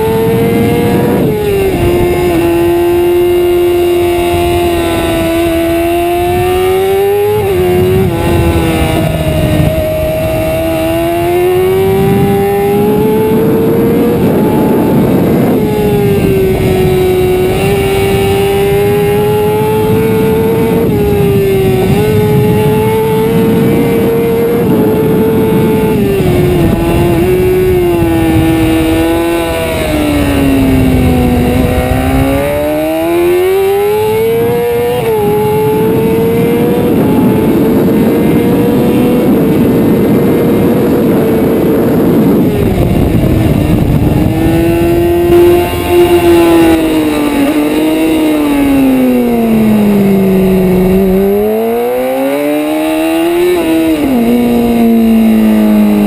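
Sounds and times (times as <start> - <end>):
motorcycle engine revving: 0.0 - 56.0
rushing wind noise: 0.0 - 56.0.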